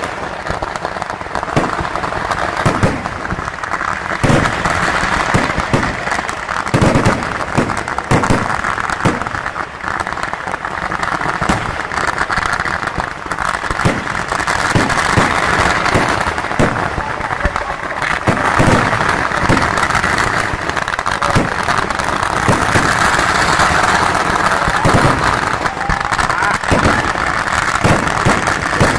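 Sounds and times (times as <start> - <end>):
firecrackers crackling: 0.0 - 28.9
heavy firework bangs: 0.0 - 28.9.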